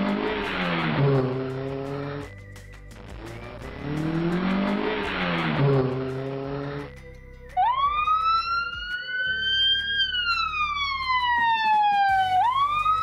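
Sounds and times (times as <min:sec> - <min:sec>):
ambulance siren wailing: 0:00.0 - 0:02.3, 0:03.3 - 0:06.9, 0:07.6 - 0:13.0.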